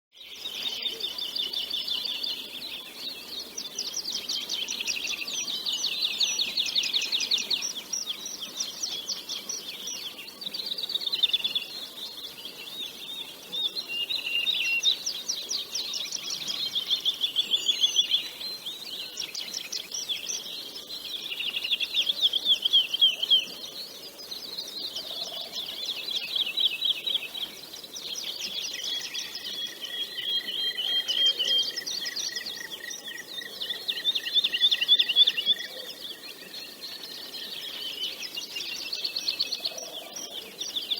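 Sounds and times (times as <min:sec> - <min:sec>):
songbirds trilling and chirping: 0:00.1 - 0:40.9.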